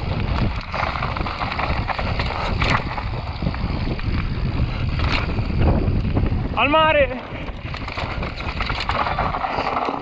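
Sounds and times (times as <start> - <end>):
bike chain and frame rattling: 0.0 - 10.0
tyres crunching on loose stones: 0.0 - 10.0
wind on microphone: 0.0 - 10.0.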